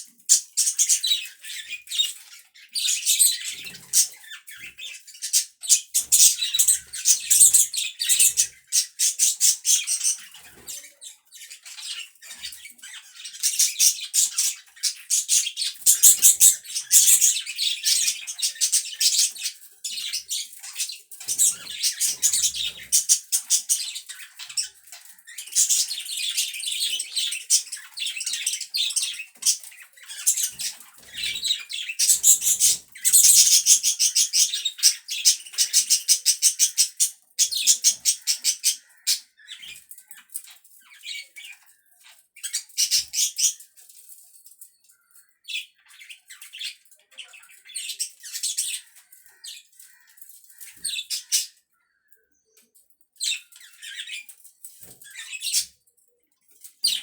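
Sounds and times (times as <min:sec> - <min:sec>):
budgerigars chattering and chirping: 0:00.0 - 0:43.8, 0:44.9 - 0:52.1, 0:53.2 - 0:55.8, 0:56.6 - 0:57.0.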